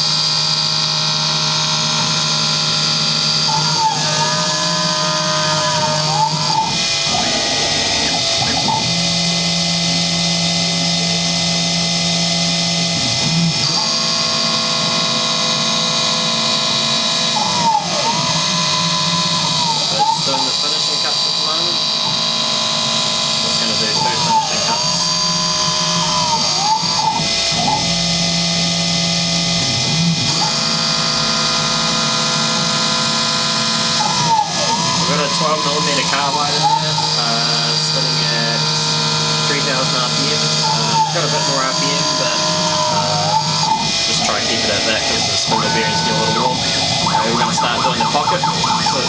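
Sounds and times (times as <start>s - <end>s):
milling machine motors whining: 0.0s - 49.0s.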